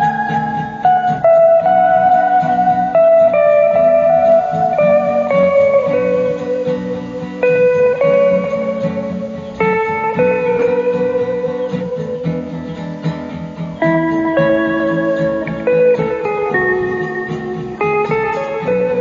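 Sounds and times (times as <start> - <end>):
guitar instrumental music: 0.0 - 19.0.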